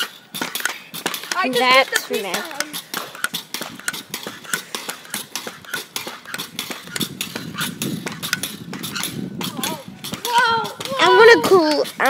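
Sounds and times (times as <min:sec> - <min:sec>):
pogo sticks clinking on asphalt: 0:00.0 - 0:12.0.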